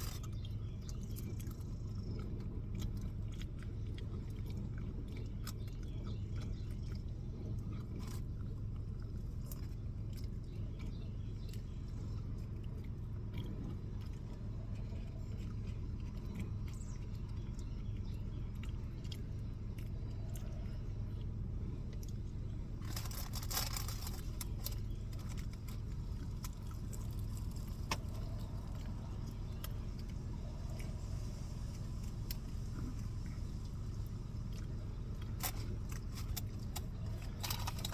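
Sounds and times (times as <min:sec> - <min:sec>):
person chewing: 0:00.0 - 0:37.9
steady low hum: 0:00.0 - 0:37.9.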